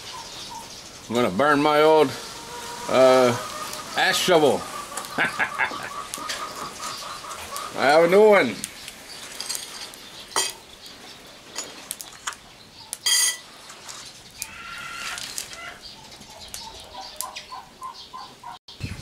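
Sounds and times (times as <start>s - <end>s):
chickens clucking: 0.0s - 11.6s, 12.3s - 18.6s.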